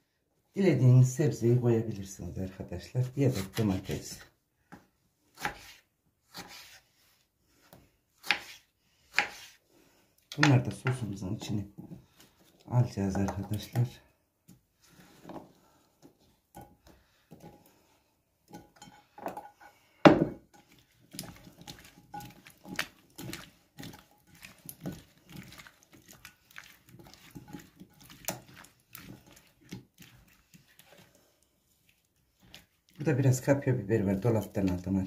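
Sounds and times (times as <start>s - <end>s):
hands mixing food in sauce: 0.8s - 35.0s.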